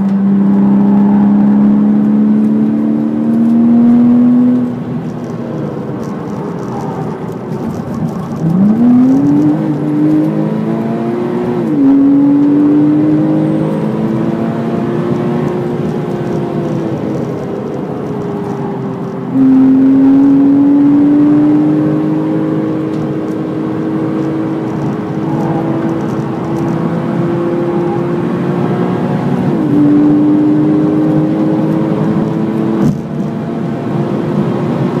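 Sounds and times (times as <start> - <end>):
car engine at full throttle: 0.0 - 35.0
tyre and road noise: 0.0 - 35.0.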